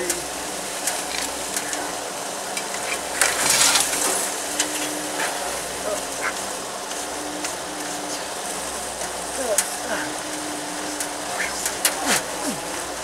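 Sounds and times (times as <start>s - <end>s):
twigs crackling under tyres: 0.0s - 13.0s.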